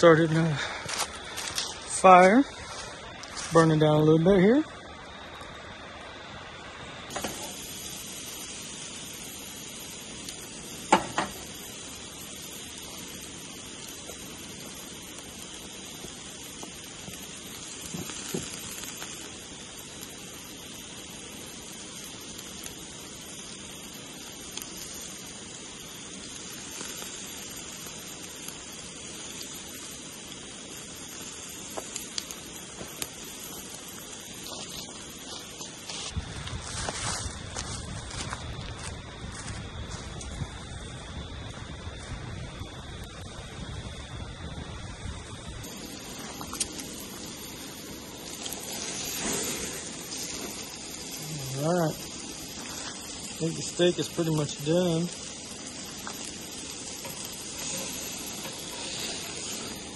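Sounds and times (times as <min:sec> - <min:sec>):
fire pops and crackles: 0:00.0 - 0:59.9
steak sizzling on a grill: 0:00.0 - 0:59.9.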